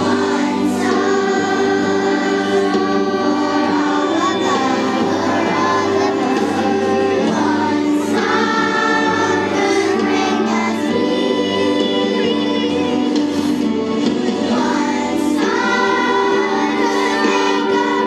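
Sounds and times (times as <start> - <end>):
children's choir singing: 0.0 - 18.0
musical accompaniment: 0.0 - 18.0.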